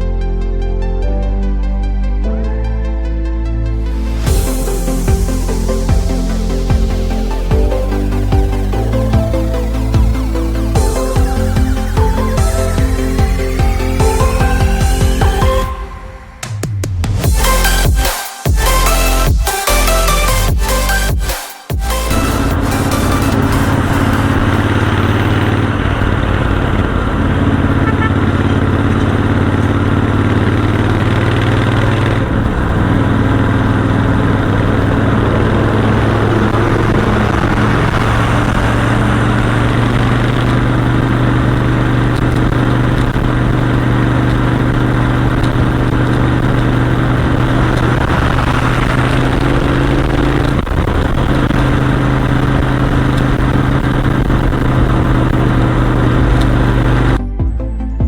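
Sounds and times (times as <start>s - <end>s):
motorcycle engine cruising: 4.1s - 18.0s, 21.8s - 57.2s.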